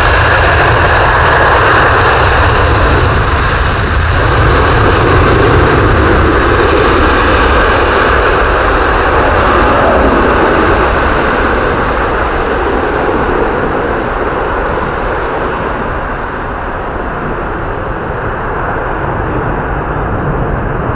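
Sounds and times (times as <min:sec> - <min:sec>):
jet engines roaring at takeoff: 0:00.0 - 0:20.9.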